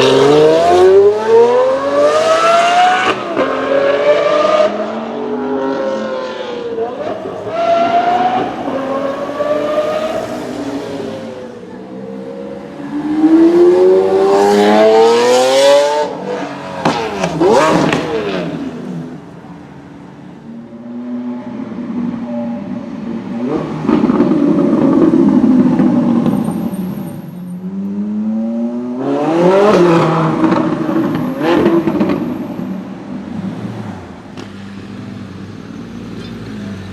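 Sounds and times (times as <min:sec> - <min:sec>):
car engines revving: 0:00.0 - 0:36.9.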